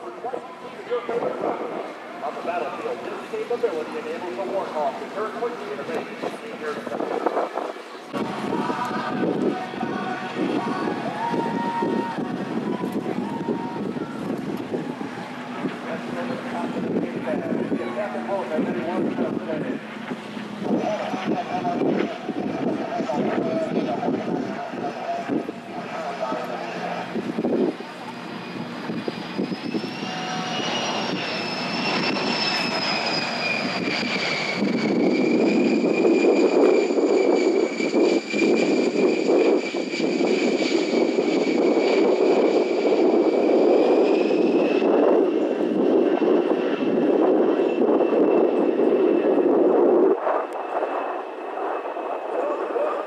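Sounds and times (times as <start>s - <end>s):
jet engines whining and roaring: 0.0s - 53.0s.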